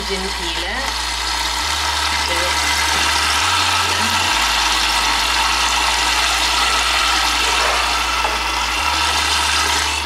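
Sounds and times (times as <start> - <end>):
water rushing into washing machine: 0.0 - 10.0.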